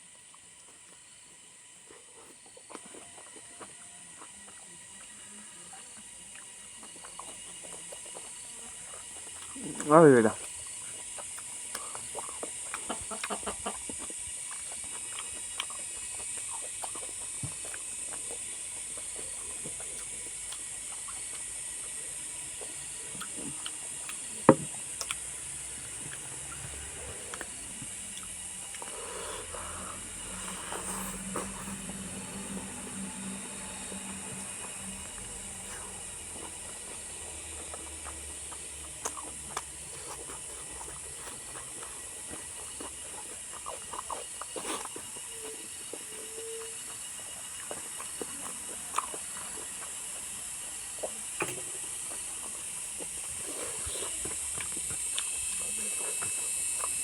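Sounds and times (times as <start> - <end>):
quiet chewing: 0.0 - 57.0.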